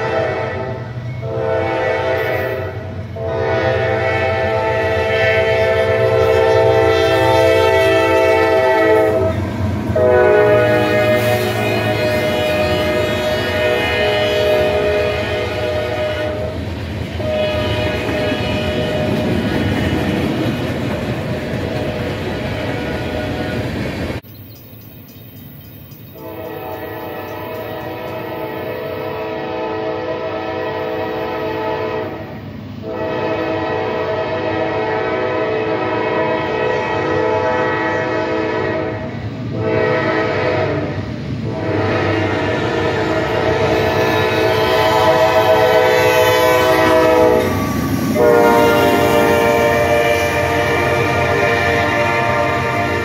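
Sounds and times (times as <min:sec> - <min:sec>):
locomotive horn blasts: 0:00.0 - 0:16.6, 0:17.2 - 0:20.3, 0:21.2 - 0:23.7, 0:26.2 - 0:53.0
passing train rumble: 0:00.0 - 0:53.0.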